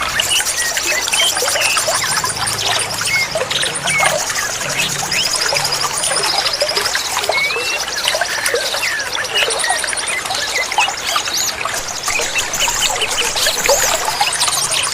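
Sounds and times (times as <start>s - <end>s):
birds chirping and whistling: 0.0s - 14.9s
trickling water: 0.0s - 14.9s.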